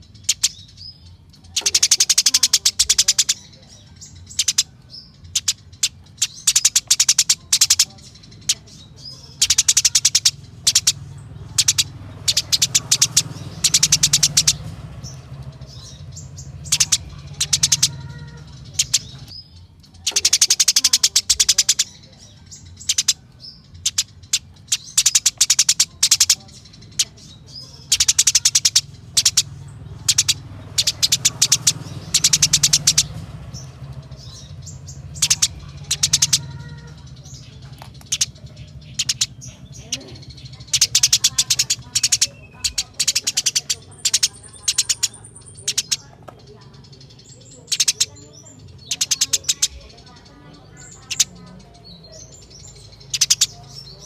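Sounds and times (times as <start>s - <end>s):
sparrows chattering: 0.0s - 54.0s.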